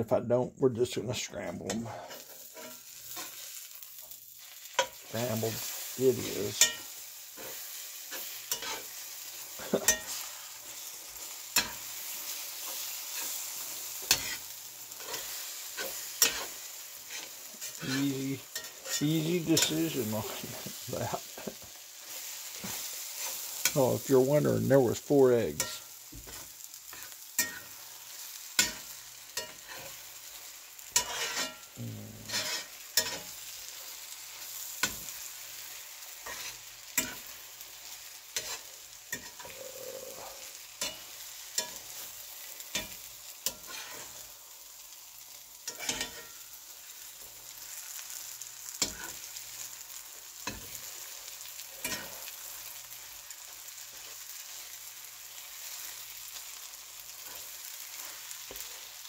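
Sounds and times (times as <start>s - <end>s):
food sizzling in a skillet: 1.0s - 59.0s
metal spatula scraping a pan: 1.6s - 24.0s, 25.6s - 44.4s, 45.2s - 59.0s.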